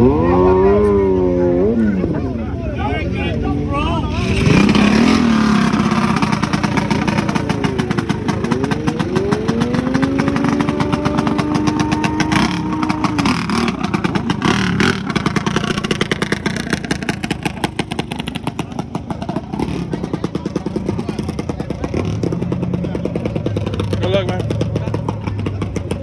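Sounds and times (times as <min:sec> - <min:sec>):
mini bike engine revving: 0:00.0 - 0:01.9, 0:04.0 - 0:26.0
mini bike engines idling: 0:01.7 - 0:26.0.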